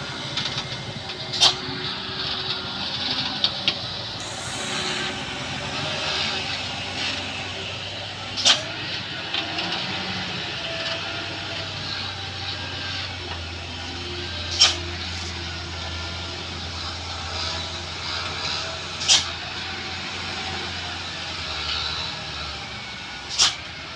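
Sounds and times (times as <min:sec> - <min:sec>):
traffic noise: 0:00.0 - 0:23.9
truck engine running: 0:00.0 - 0:23.9.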